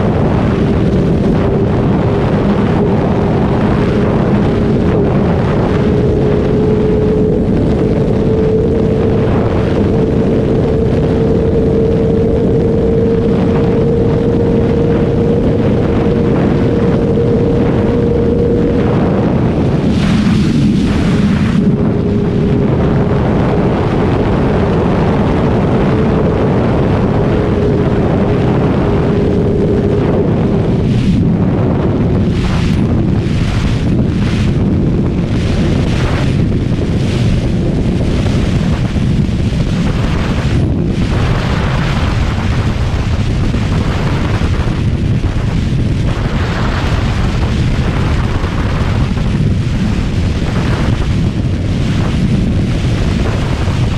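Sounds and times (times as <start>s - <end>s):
motorcycle engine cruising: 0.0s - 53.9s
wind rush on microphone: 0.0s - 53.9s.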